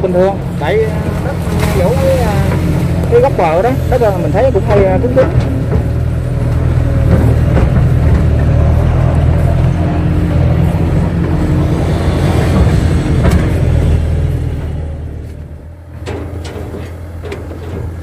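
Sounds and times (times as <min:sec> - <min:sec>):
diesel engine running under load: 0:00.0 - 0:18.0
steady whine: 0:00.0 - 0:18.0.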